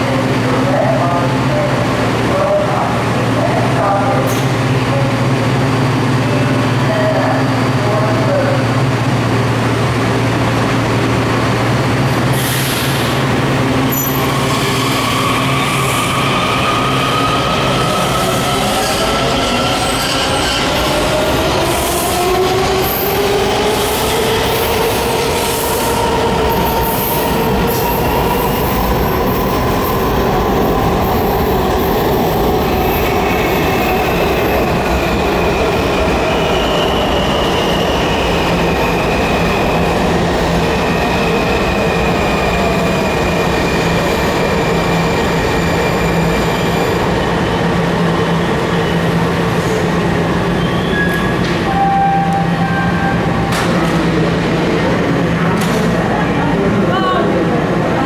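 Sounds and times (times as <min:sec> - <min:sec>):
subway train motors whining: 0:00.0 - 0:58.0.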